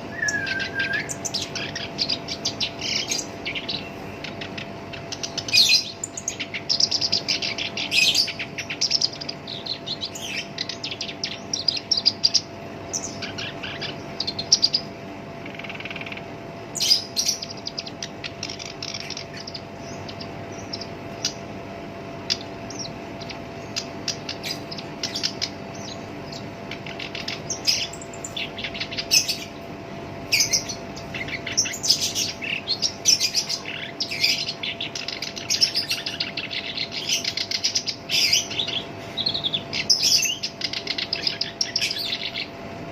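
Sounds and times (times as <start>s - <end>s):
warbler singing chattering phrases: 0.0s - 42.6s
faint steady hum: 0.0s - 42.9s.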